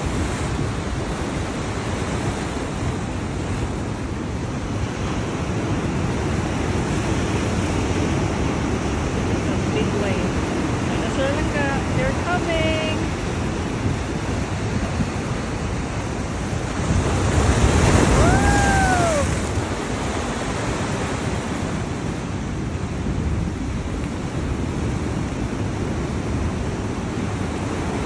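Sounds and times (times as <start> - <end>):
surf breaking over rocks: 0.0 - 28.0
wind buffeting microphone: 0.0 - 28.0.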